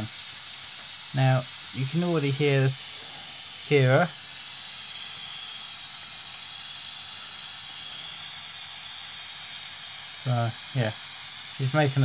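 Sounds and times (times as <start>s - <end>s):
hiss of simulated steam: 0.0s - 12.0s.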